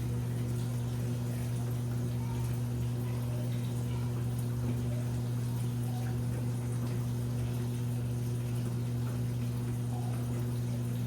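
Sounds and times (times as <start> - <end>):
washing machine hum: 0.0 - 11.0.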